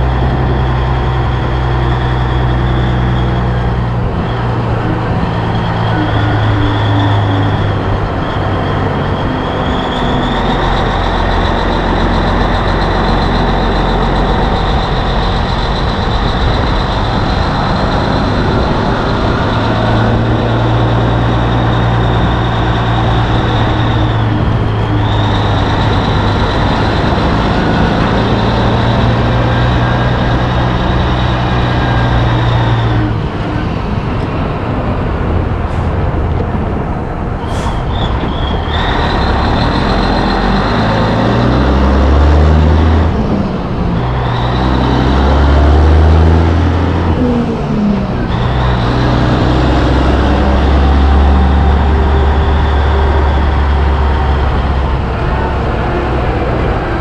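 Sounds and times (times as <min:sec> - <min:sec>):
high whine: 0:00.0 - 0:57.0
truck diesel engine shifting gears: 0:00.0 - 0:57.0.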